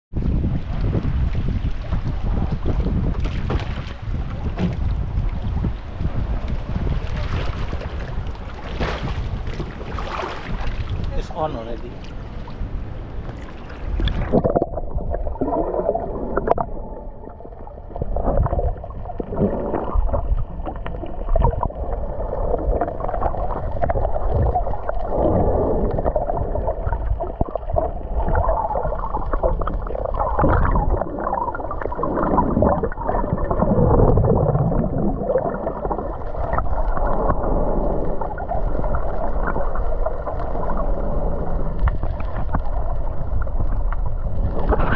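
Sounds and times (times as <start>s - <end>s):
underwater water gurgling: 0.1s - 44.9s.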